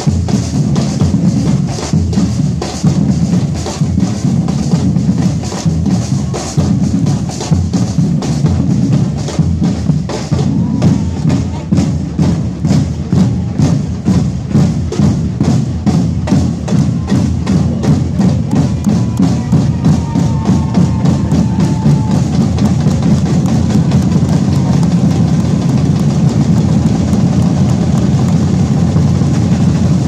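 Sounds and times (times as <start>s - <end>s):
drums beating fast rhythm: 0.0s - 30.0s.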